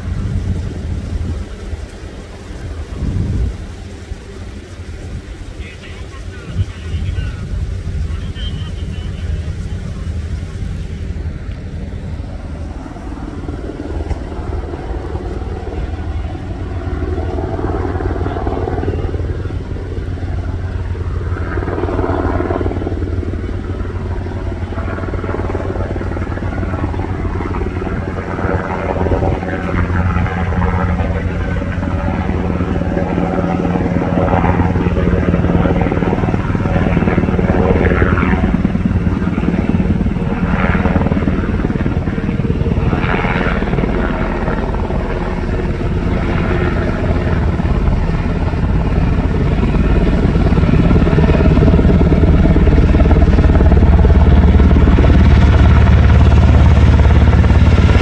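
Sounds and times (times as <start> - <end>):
helicopter rotor and turbine rumble: 0.0 - 58.0.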